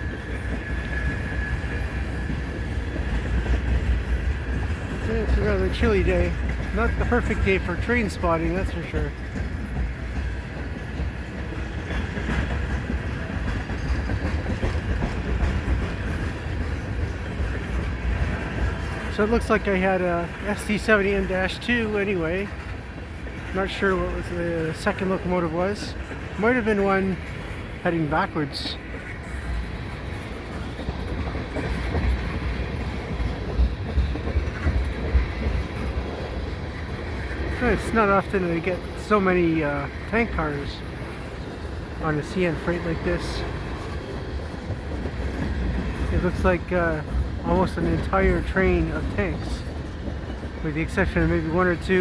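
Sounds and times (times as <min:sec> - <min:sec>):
train wheels rumbling on rail: 0:00.0 - 0:52.0
wheels clacking: 0:00.0 - 0:52.0.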